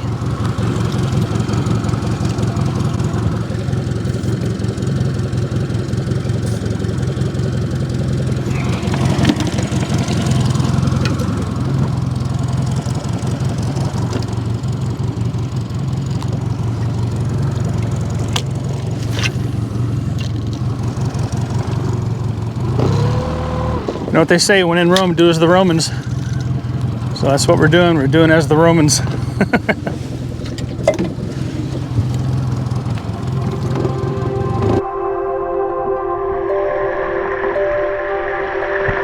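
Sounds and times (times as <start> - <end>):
boat motor running: 0.0 - 34.9.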